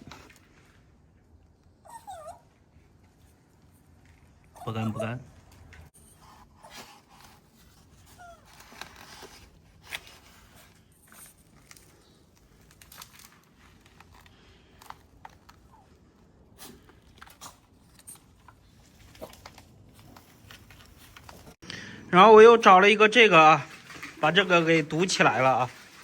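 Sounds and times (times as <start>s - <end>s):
faint rustling and scraping: 2.5s - 21.6s, 23.3s - 26.0s.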